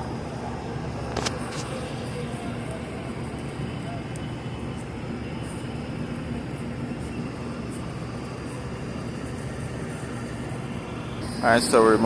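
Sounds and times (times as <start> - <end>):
machinery rumble and hum: 0.0 - 12.0.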